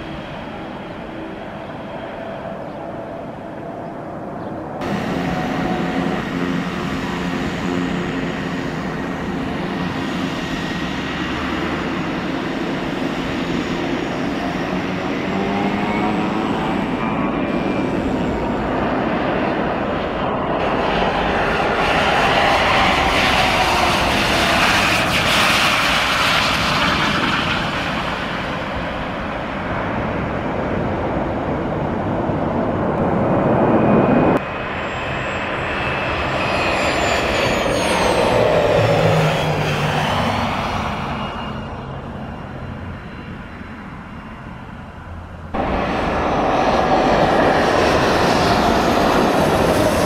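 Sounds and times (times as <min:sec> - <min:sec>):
jet engines rushing and whining: 0:00.0 - 0:50.0.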